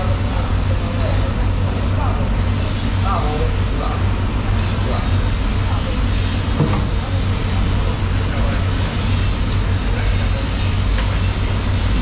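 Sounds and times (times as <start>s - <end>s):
machinery rumbling: 0.0s - 12.0s
thin high whine: 2.0s - 12.0s.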